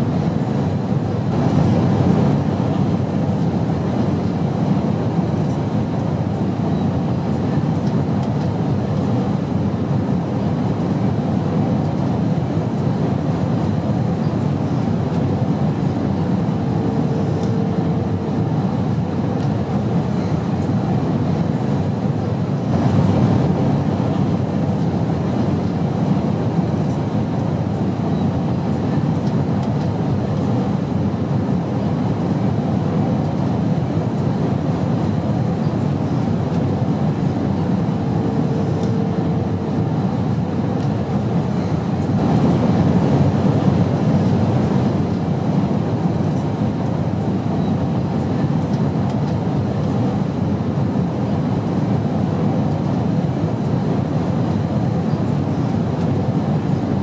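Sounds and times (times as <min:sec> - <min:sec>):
airplane drone: 0:00.0 - 0:57.0.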